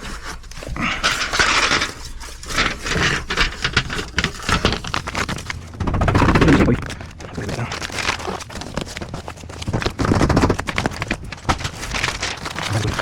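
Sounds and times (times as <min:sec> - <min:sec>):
sheet metal scraping and clattering: 0:00.0 - 0:13.0.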